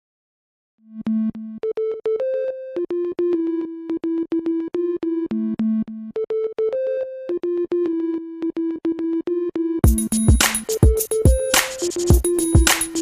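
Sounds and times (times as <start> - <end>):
electronic synthesizer music: 1.0 - 13.0.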